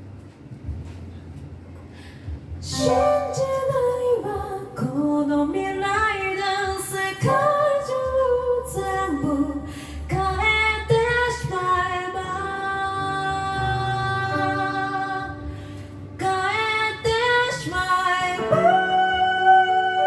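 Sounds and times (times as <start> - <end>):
woman singing lead: 2.7 - 15.6, 16.2 - 20.0
low bass voice singing: 2.7 - 20.0.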